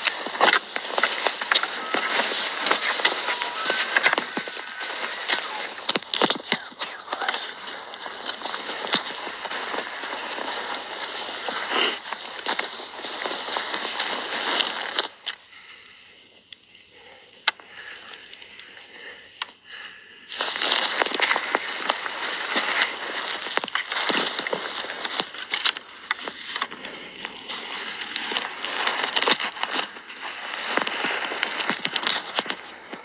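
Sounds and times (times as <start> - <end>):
clothing rustle: 0.0 - 15.2, 20.3 - 33.0.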